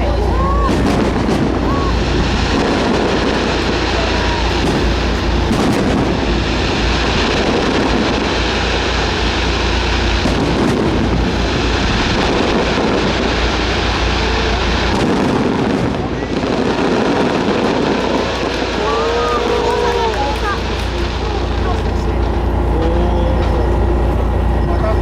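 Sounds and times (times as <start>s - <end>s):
firework bursts and booms: 0.0s - 22.8s
sharp firework cracks: 0.6s - 22.4s.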